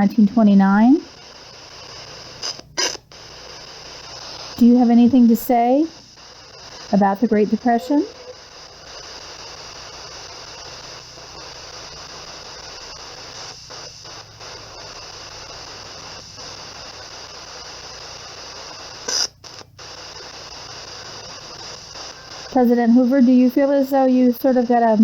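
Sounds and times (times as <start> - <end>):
radio static: 0.0 - 25.0.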